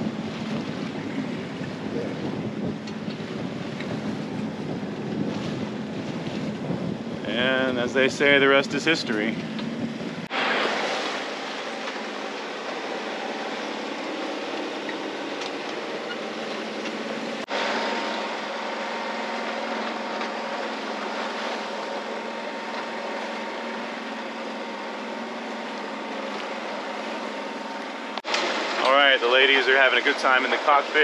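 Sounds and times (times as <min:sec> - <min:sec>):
diesel engine drone: 0:00.0 - 0:31.0
water rushing along hull: 0:00.0 - 0:31.0
wind: 0:00.0 - 0:31.0.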